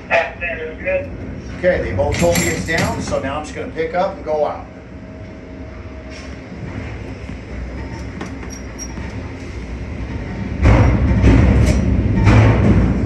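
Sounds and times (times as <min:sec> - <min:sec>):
crane mechanical rumble: 0:00.0 - 0:13.0.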